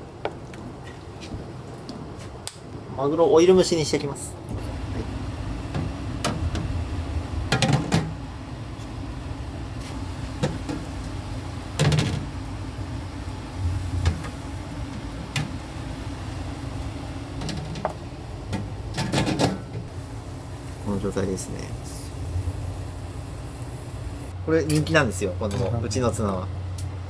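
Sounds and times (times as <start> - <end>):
low hum: 4.4 - 27.0.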